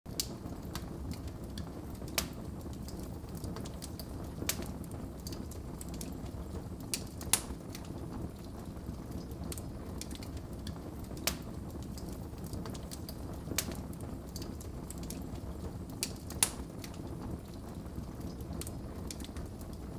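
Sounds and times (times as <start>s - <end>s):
wood fire crackling: 0.1s - 19.9s.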